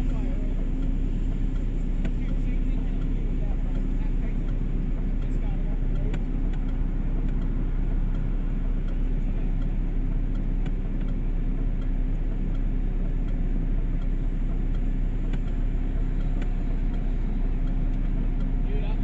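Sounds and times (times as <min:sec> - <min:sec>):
low vehicle rumble: 0:00.0 - 0:19.0
faint ticks: 0:00.1 - 0:18.7.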